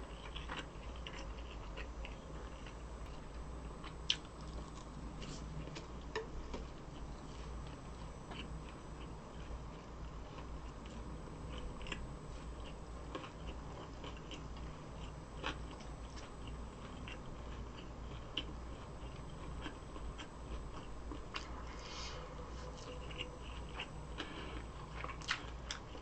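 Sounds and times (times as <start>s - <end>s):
chewing with wet mouth clicks: 0.1s - 6.7s, 8.3s - 21.7s, 22.8s - 26.0s.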